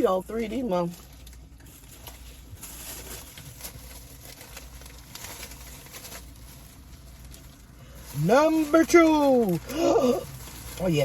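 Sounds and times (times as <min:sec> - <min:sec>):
low steady hum: 0:00.0 - 0:11.0
soft rustles: 0:00.0 - 0:11.0.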